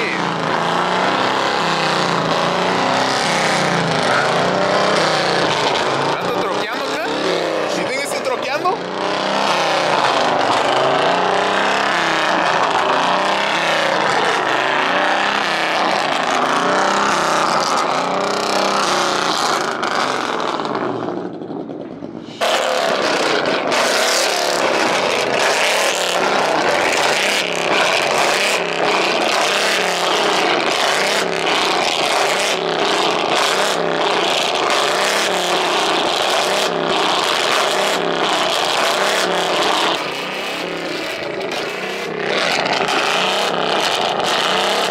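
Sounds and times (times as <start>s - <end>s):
car engine revving: 0.0s - 44.9s
exhaust popping and crackling: 0.0s - 44.9s.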